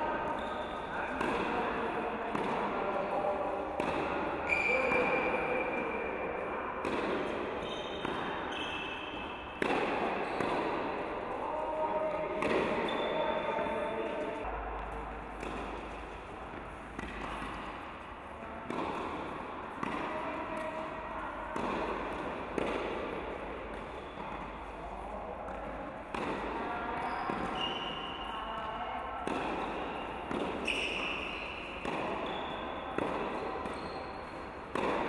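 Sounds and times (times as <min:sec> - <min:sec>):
tennis balls bouncing: 0:00.2 - 0:05.2, 0:06.8 - 0:28.3, 0:29.2 - 0:35.0
tennis balls struck by rackets: 0:00.2 - 0:28.3, 0:29.2 - 0:35.0.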